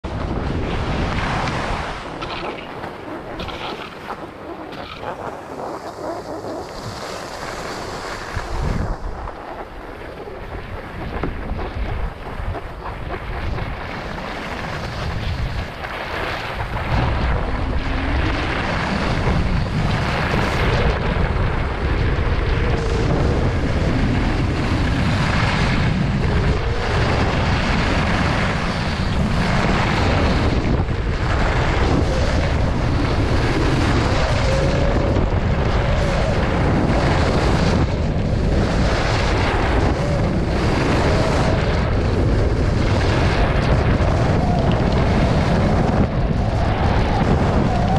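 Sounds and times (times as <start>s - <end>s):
wind buffeting microphone: 0.0s - 47.9s
skis carving on snow: 0.1s - 47.9s.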